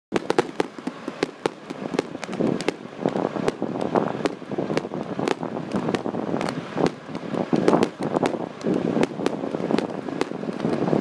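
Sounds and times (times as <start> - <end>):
fireworks banging and popping: 0.1 - 11.0.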